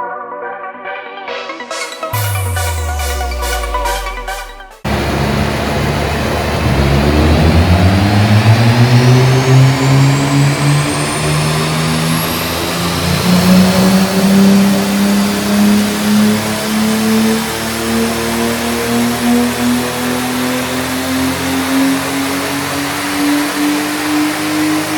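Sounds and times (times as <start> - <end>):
car engine at full throttle: 2.2 - 24.9.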